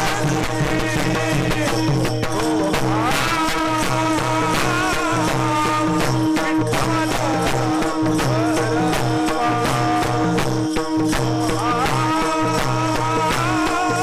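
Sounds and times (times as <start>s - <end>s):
bending vocal melody: 0.0s - 14.0s
percussion beat: 0.0s - 14.0s.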